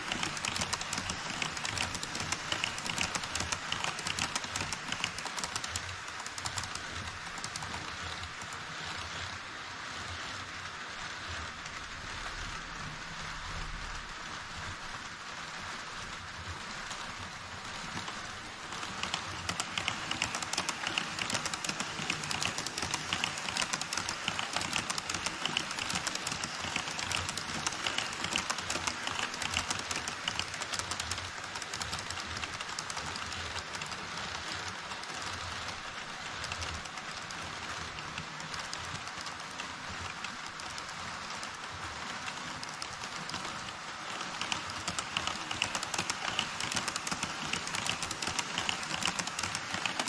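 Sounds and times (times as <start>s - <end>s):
model train wheels clicking on rails: 0.0s - 50.0s.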